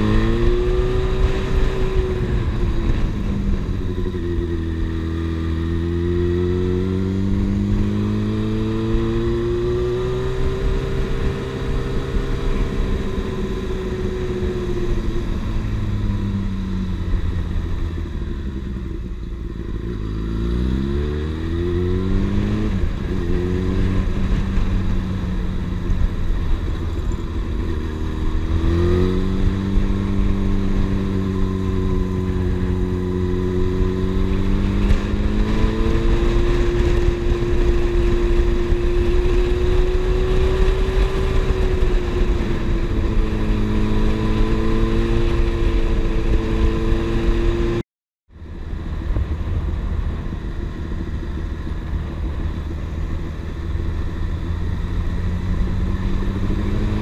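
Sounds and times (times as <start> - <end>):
low wind rush: 0.0 - 57.0
motorcycle engine running: 0.0 - 57.0.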